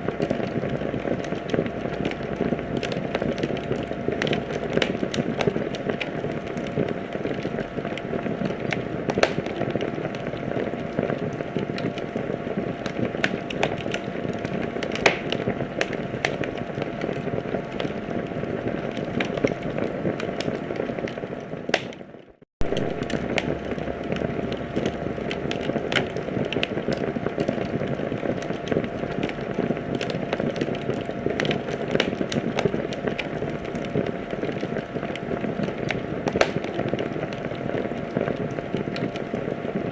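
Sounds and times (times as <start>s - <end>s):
wood fire crackling: 0.0s - 39.9s
sharp pops of fire: 0.1s - 9.6s, 10.9s - 18.0s, 21.2s - 39.4s.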